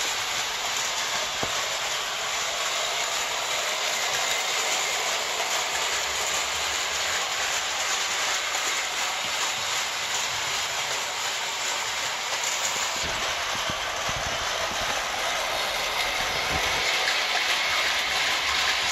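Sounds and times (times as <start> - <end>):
toy train rattling on metal track: 0.0 - 18.9.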